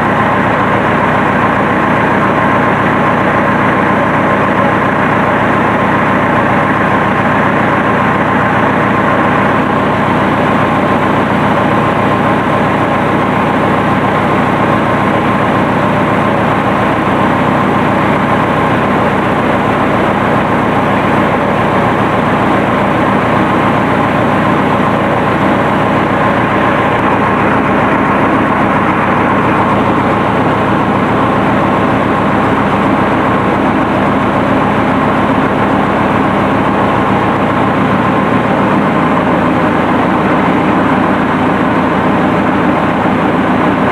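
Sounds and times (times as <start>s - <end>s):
diesel tractor engine idling: 0.0s - 43.9s.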